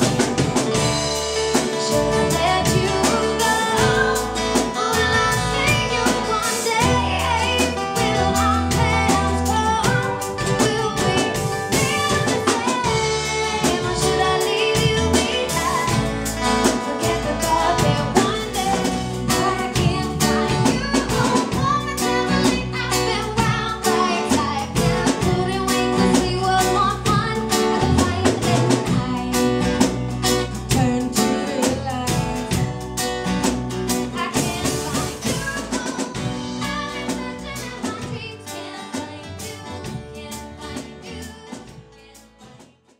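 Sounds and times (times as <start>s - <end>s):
drum kit playing: 0.0s - 42.8s
woman singing: 1.5s - 32.8s, 33.9s - 42.9s.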